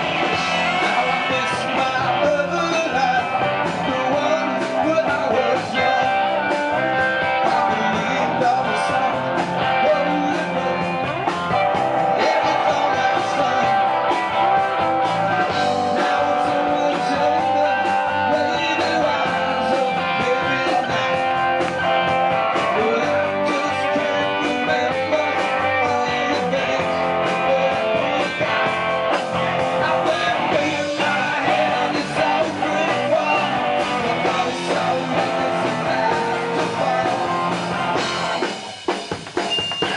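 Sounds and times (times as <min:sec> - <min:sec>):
bass guitar: 0:00.0 - 0:39.9
electric guitars: 0:00.0 - 0:39.9
man singing into a microphone: 0:00.4 - 0:11.2, 0:12.0 - 0:14.4, 0:15.1 - 0:37.6.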